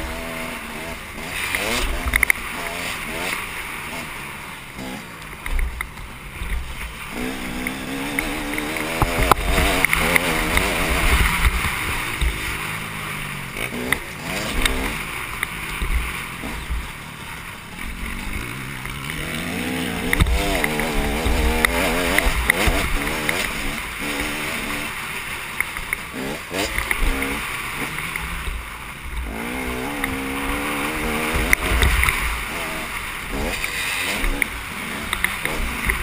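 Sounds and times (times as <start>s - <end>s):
motocross bike engine revving: 0.0s - 36.0s.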